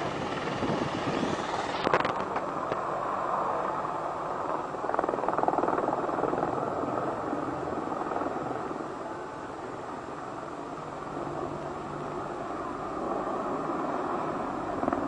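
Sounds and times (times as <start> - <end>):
helicopter rotor and turbine: 0.0 - 15.0.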